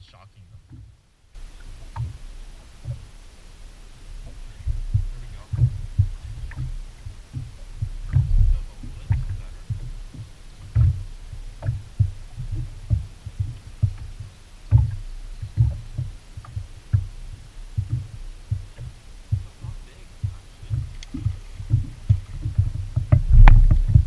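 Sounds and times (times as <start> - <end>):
waves slapping boat hull: 0.0 - 24.0.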